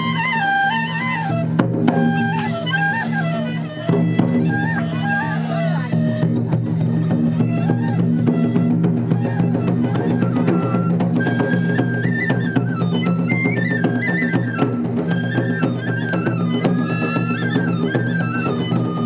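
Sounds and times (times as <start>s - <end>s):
high bamboo flute melody: 0.0s - 19.0s
taiko drum rhythm: 0.0s - 19.0s.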